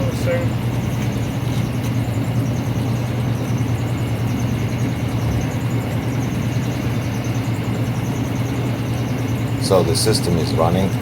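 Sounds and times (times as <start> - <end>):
electrical hum: 0.0 - 11.0
fan whooshing: 0.0 - 11.0.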